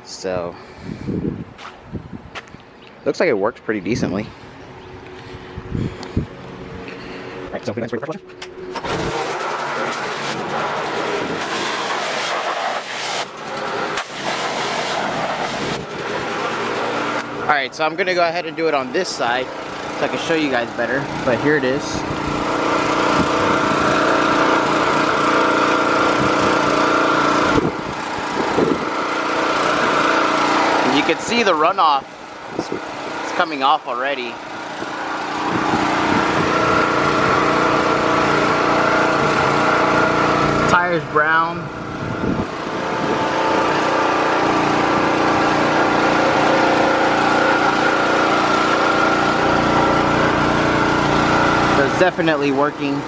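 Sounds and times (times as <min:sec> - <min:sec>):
pressure washer petrol engine running: 0:04.1 - 0:53.0.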